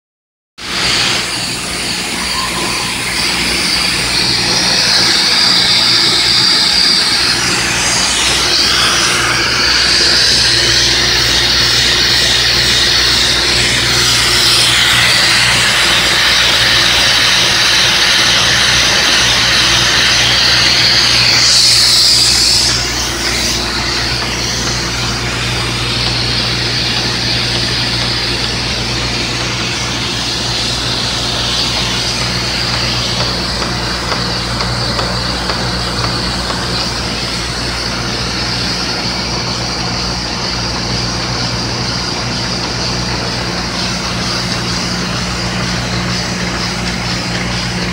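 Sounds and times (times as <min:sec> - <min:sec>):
high machine hiss: 0:00.6 - 0:47.9
machine hum: 0:00.6 - 0:47.9.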